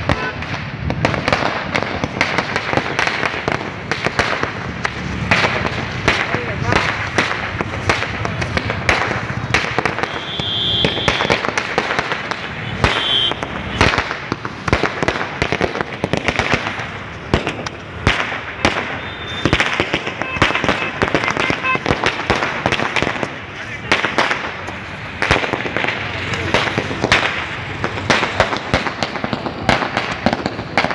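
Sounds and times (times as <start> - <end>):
firecrackers banging: 0.0 - 30.9.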